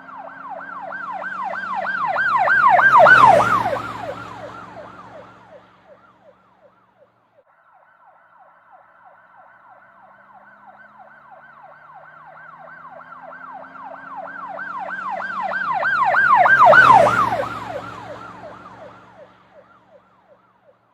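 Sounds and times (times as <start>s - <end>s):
police siren yelping: 0.0s - 7.0s, 7.7s - 20.8s.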